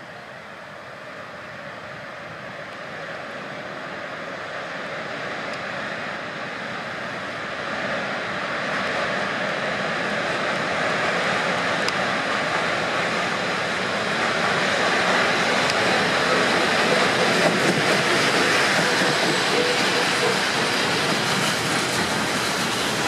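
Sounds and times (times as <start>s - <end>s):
train wheels rumbling on rail: 0.5s - 23.0s.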